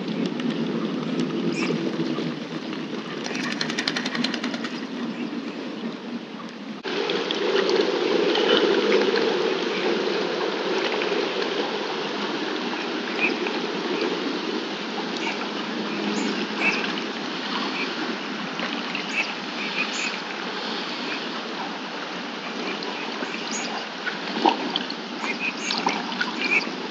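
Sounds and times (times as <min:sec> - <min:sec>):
lake water lapping: 0:00.0 - 0:05.8, 0:06.8 - 0:26.9.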